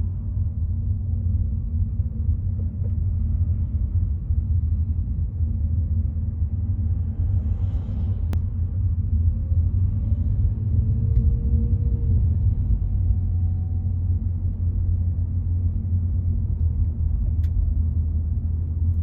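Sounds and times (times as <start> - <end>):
car driving on road: 0.0 - 19.0.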